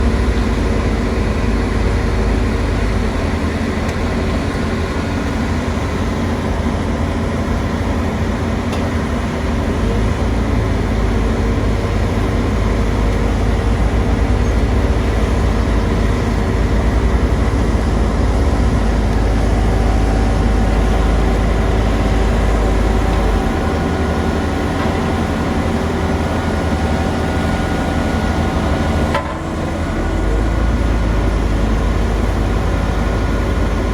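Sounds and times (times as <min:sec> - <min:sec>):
heavy engine rumbling: 0:00.0 - 0:33.9.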